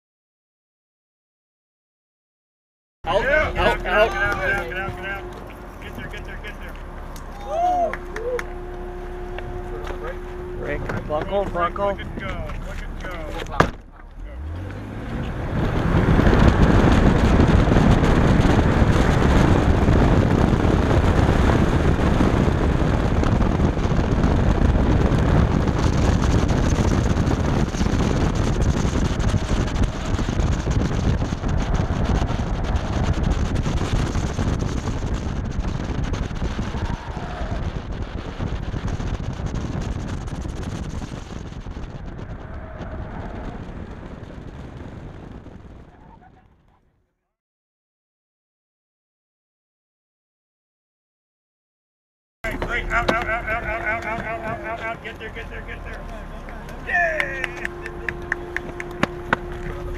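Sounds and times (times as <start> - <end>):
wind noise on microphone: 3.0 - 47.0, 52.4 - 59.9
car engine pulling hard: 3.1 - 46.3, 52.4 - 59.9.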